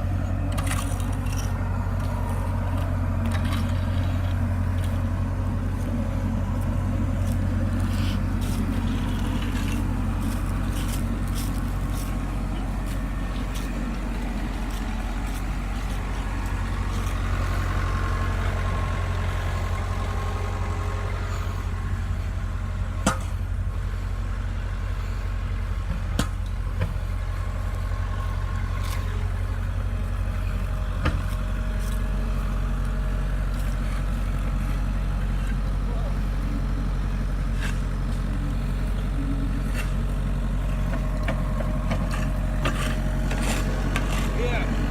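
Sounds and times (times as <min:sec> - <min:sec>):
heavy machinery engine idling: 0:00.0 - 0:44.9.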